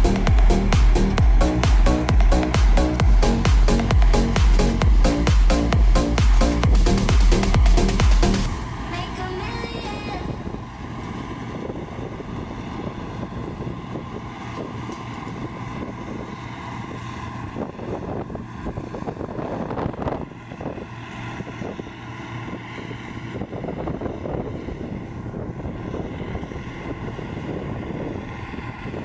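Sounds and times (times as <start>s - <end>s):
combine harvester humming: 0.0s - 29.0s
wind rumbling on microphone: 0.0s - 29.0s.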